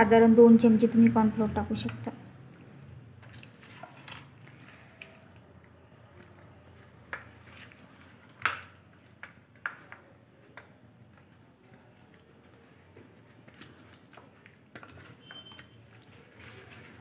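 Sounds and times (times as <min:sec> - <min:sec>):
hand squishing meat in marinade: 0:00.6 - 0:17.0.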